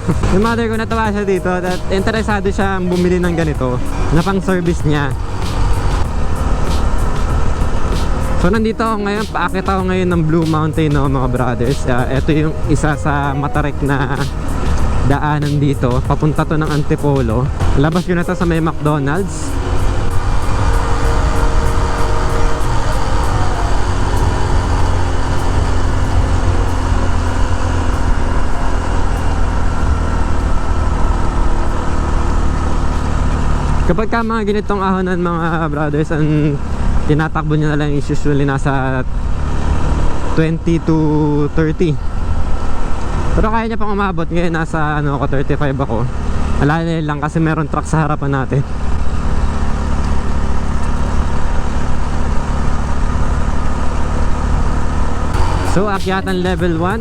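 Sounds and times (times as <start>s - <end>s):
moped engine climbing hill: 0.0s - 57.0s
road noise rushing: 0.0s - 57.0s.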